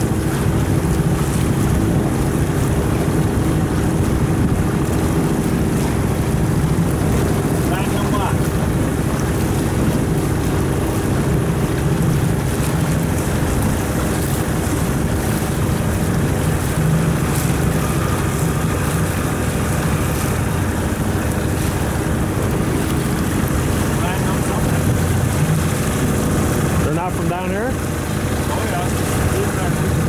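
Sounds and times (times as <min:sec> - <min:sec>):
boat engine running: 0:00.0 - 0:30.0
water: 0:00.0 - 0:30.0
wind noise on microphone: 0:00.0 - 0:30.0.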